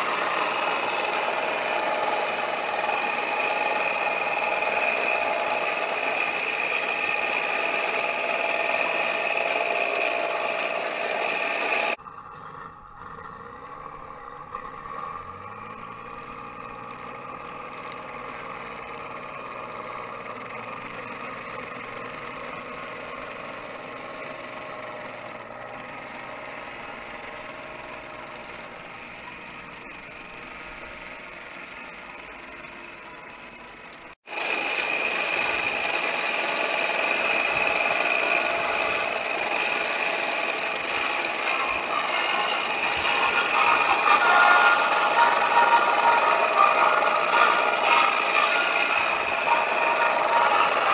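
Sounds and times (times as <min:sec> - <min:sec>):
model tank motor whining: 0:00.0 - 0:50.9.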